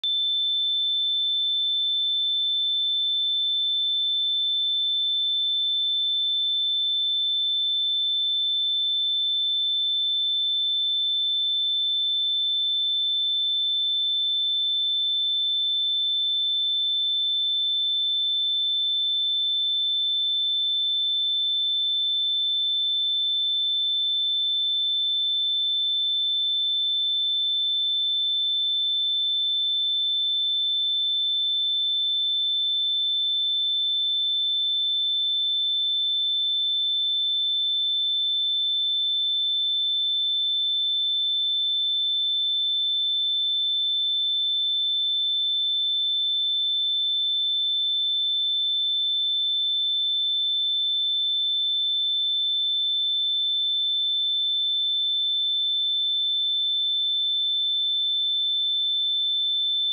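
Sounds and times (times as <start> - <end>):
high-pitched sine test tone: 0.0 - 59.9.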